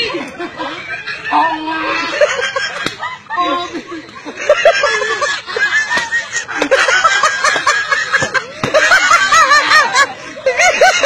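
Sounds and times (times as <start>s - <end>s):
people laughing hard: 0.0s - 11.0s.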